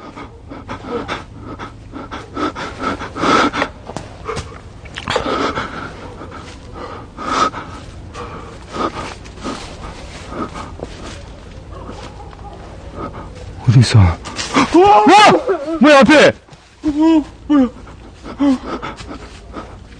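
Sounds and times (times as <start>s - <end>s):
person breathing hard: 0.0s - 14.8s, 16.8s - 19.9s.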